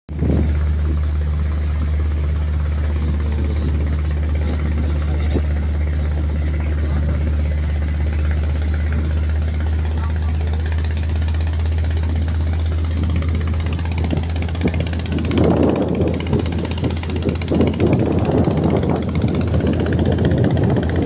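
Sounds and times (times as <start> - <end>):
boat engine droning: 0.1 - 21.0.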